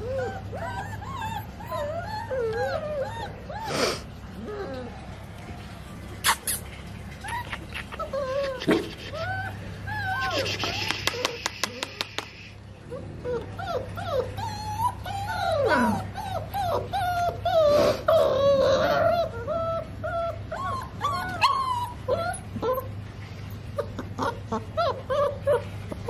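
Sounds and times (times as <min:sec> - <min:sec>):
puppies whimpering and whining: 0:00.0 - 0:26.0.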